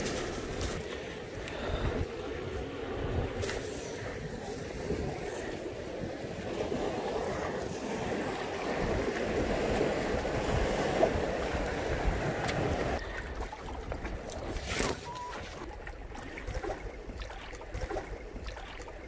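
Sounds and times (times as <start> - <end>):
sea waves washing over rocks: 0.0 - 19.0
wind rumbling on microphone: 0.0 - 19.0.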